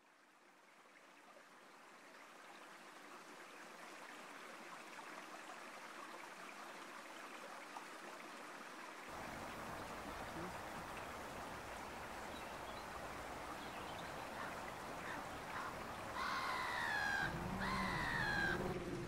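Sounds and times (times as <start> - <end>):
fast-flowing river water: 0.9 - 19.0.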